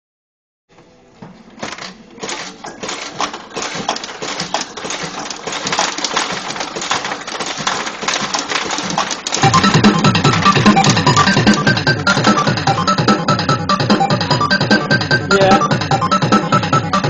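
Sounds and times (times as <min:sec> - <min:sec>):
pachinko machines clattering: 0:01.6 - 0:17.0.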